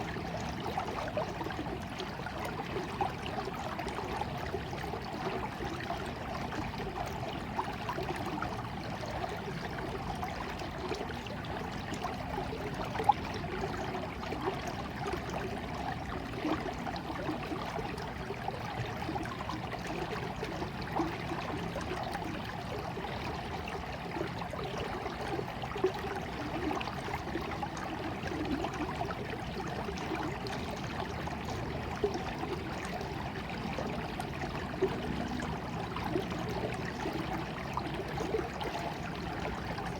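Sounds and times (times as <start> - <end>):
stream flowing: 0.0 - 39.9
water splashes: 0.0 - 39.9.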